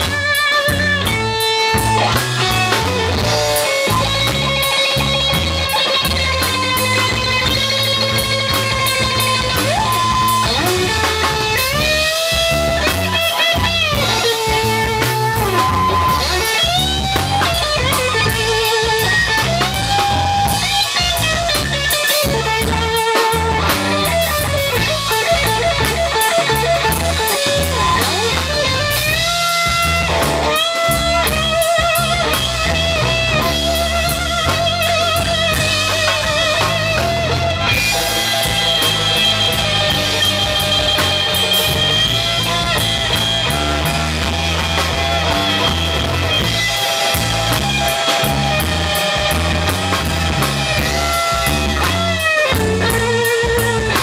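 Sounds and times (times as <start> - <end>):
bass guitar: 0.0 - 54.0
drum kit: 0.0 - 54.0
electric guitar solo with bends: 0.0 - 54.0.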